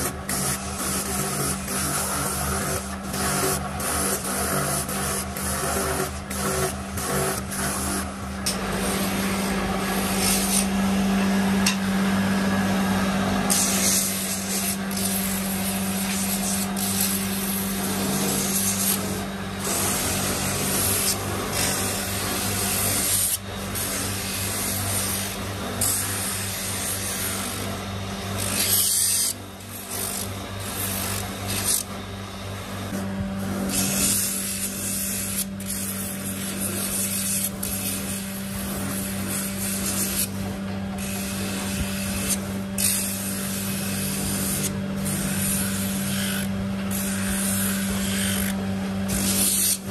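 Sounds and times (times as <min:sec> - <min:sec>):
wood rasping against sanding drum: 0:00.0 - 0:31.9, 0:33.0 - 0:49.9
electric sanding drum humming: 0:00.0 - 0:49.9.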